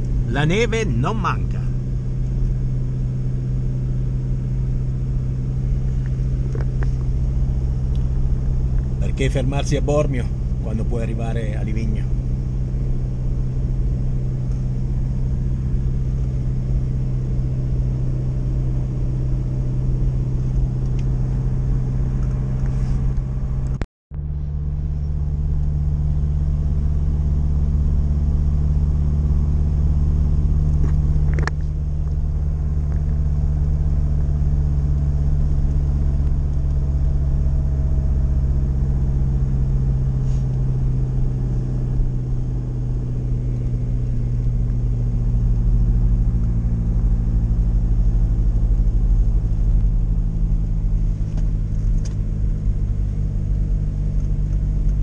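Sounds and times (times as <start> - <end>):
van engine droning: 0.0 - 55.0.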